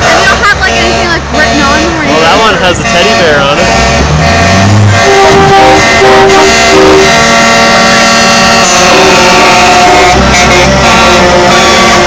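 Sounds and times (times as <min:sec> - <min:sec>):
truck engines running: 0:00.0 - 0:12.0
truck horns honking: 0:00.0 - 0:12.0.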